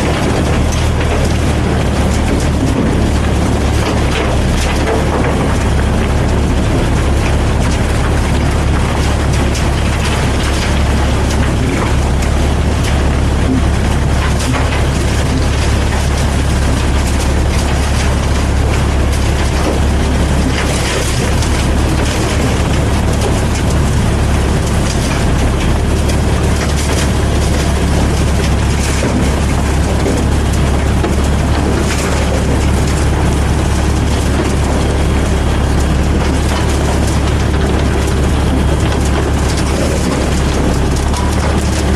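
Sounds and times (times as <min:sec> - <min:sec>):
diesel engine drone: 0:00.0 - 0:41.9
milling machine noise: 0:00.0 - 0:41.9.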